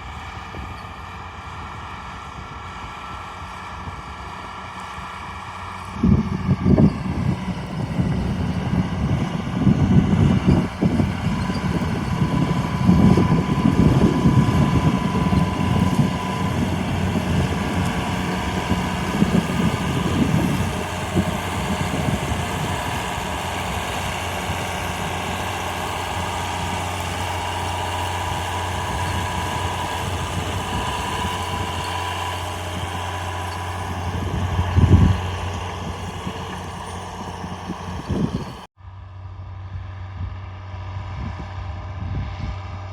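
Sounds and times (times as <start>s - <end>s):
tractor diesel engine running: 0.0s - 38.7s.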